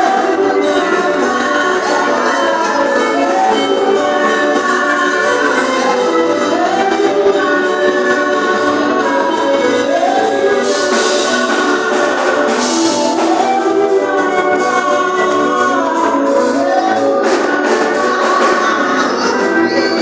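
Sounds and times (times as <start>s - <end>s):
bright percussion: 0.0s - 20.0s
group singing gospel: 0.0s - 20.0s.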